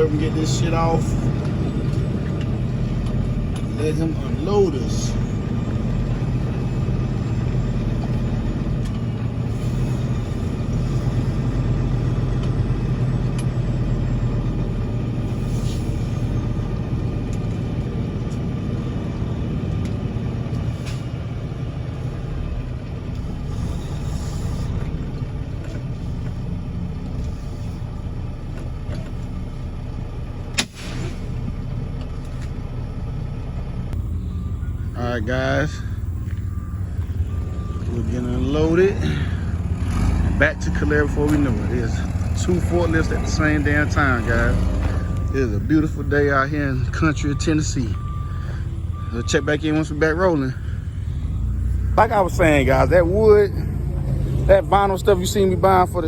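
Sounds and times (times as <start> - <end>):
heavy vehicle engine rumbling: 0.0 - 56.0.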